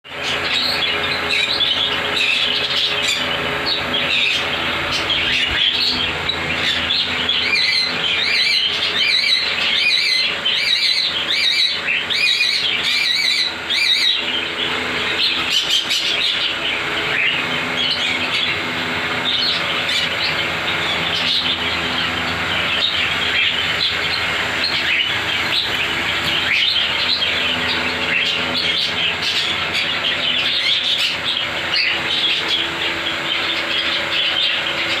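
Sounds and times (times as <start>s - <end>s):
parrots chirping and chattering: 0.1s - 35.0s.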